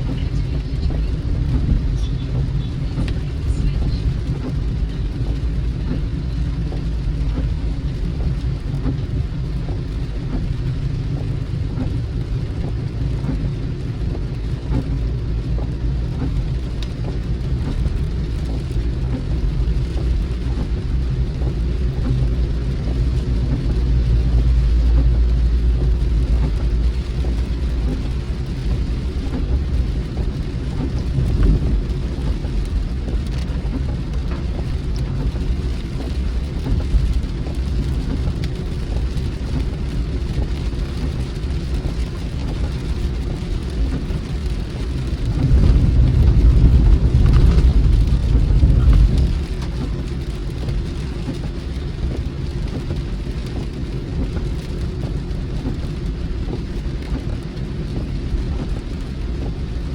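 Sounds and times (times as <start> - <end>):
car road rumble from inside: 0.0 - 59.9
rain pattering on car: 0.0 - 59.9.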